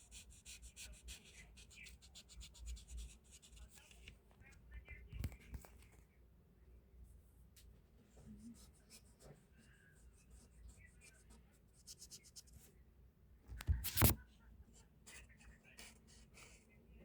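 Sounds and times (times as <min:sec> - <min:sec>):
faint scratching and rustling: 0:01.0 - 0:06.2, 0:07.1 - 0:12.8, 0:13.5 - 0:16.8.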